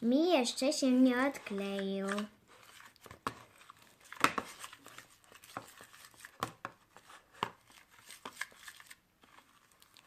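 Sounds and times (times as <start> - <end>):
slime squelching: 1.2 - 10.0.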